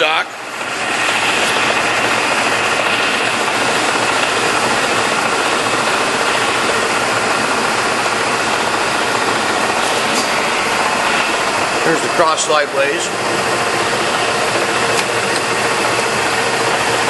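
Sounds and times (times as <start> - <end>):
lathe running: 0.0 - 17.0.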